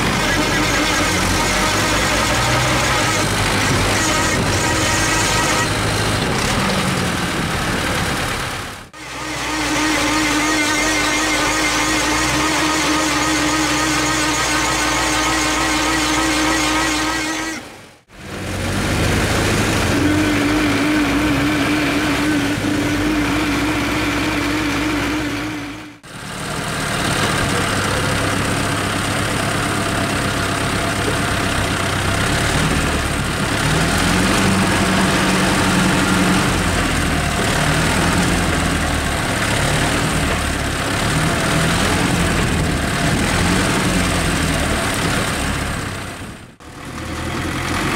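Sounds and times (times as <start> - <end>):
tractor diesel engines running: 0.0 - 47.9.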